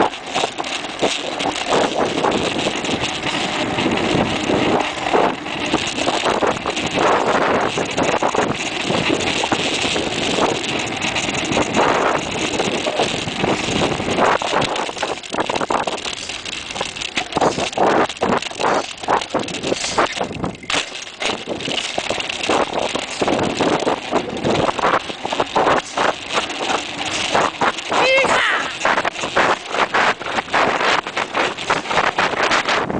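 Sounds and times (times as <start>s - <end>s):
bicycle tyre noise on tarmac: 0.0s - 32.9s
bike knocking and rattling: 0.0s - 32.9s
wind rush: 0.0s - 32.9s.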